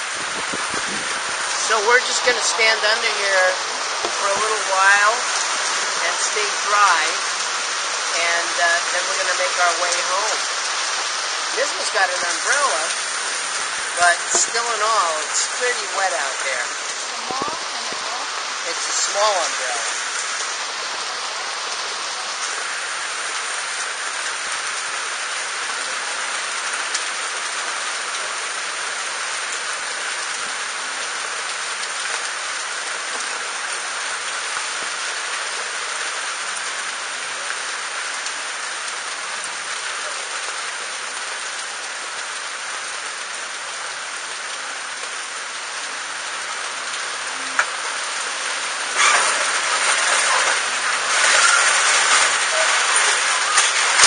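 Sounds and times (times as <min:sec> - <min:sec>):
heavy rain on awnings and street: 0:00.0 - 0:54.0.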